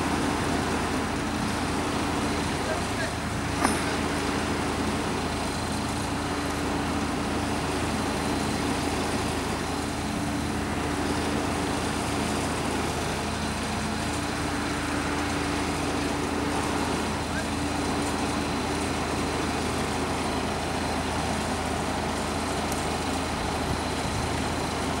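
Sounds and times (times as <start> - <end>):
steady engine hum: 0.0 - 25.0.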